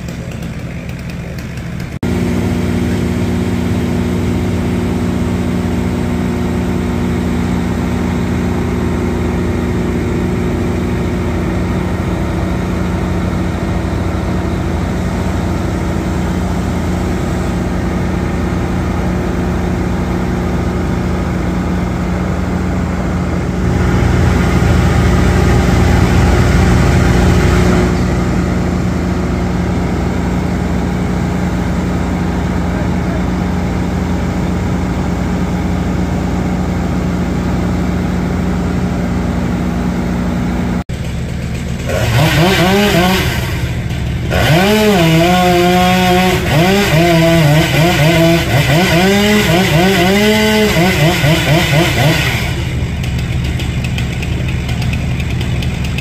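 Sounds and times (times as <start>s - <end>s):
large machinery engine running: 0.0s - 56.0s.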